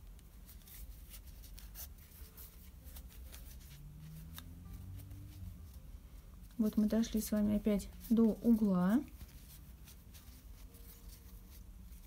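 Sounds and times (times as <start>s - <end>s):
yarn rustling and rubbing: 0.0s - 12.0s.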